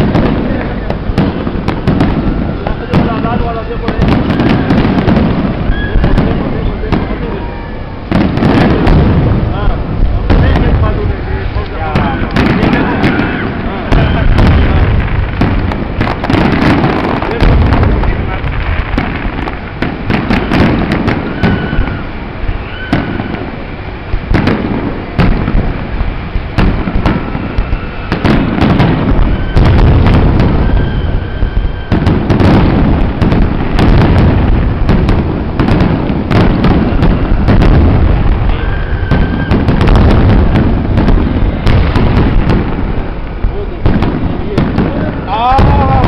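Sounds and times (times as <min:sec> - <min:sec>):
firework shells bursting: 0:00.0 - 0:46.0
fireworks crackling: 0:00.0 - 0:46.0.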